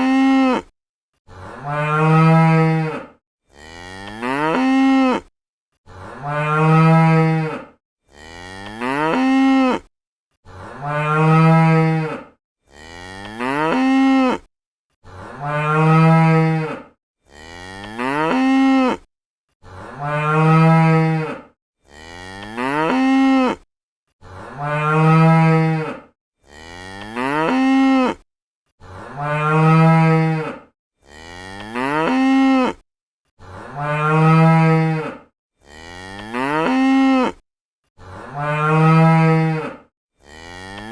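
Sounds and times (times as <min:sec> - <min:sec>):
cow mooing: 0:01.3 - 0:28.2, 0:28.8 - 0:32.8, 0:33.4 - 0:37.4, 0:38.0 - 0:40.9.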